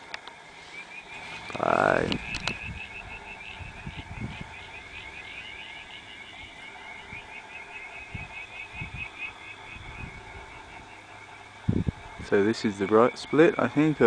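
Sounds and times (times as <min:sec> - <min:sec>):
chorus of chirping animals: 0:00.4 - 0:14.0.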